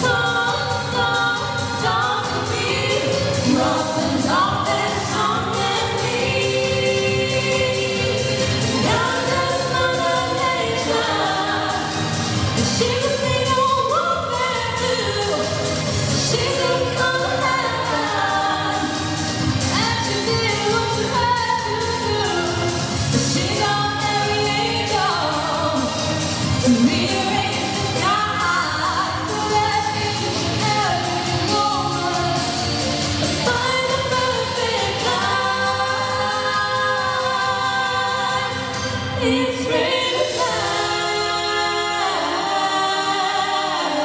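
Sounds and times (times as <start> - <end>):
pop accompaniment with steady beat: 0.0 - 44.0
two women singing a duet: 0.0 - 44.0.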